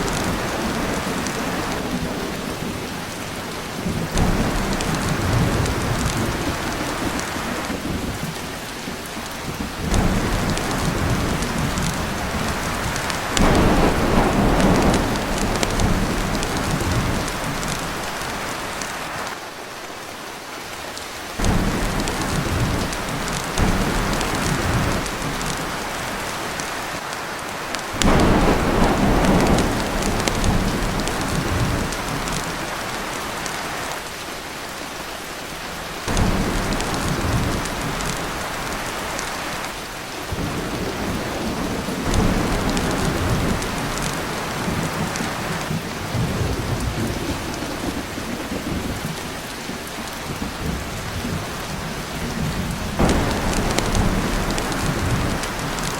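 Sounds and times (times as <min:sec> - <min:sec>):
heavy rain on a tin roof: 0:00.0 - 0:55.9
thunder rumbling: 0:03.7 - 0:19.0, 0:21.4 - 0:26.9, 0:27.8 - 0:33.5, 0:36.1 - 0:39.7, 0:40.3 - 0:55.9.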